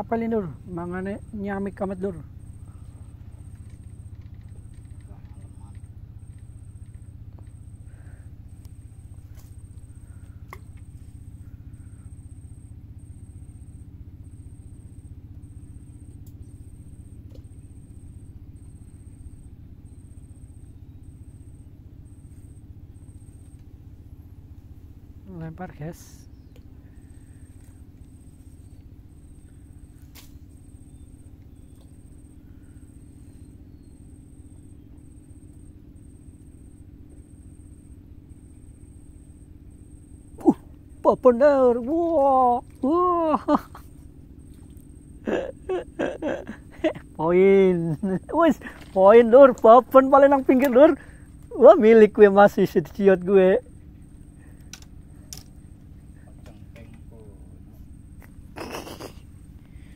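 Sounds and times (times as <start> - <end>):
engine rumble pulsing: 0.0 - 59.9
steady low hum: 0.0 - 59.9.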